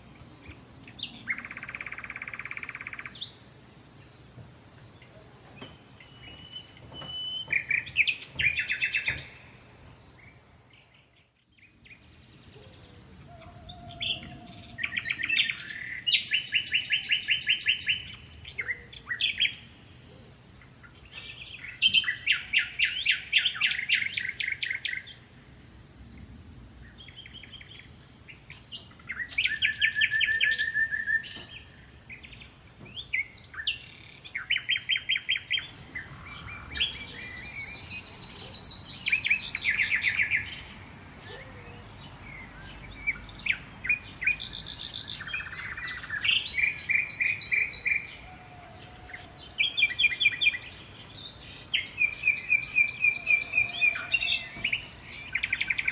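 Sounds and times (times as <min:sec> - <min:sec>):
songbirds trilling and chirping: 0:00.0 - 0:55.9.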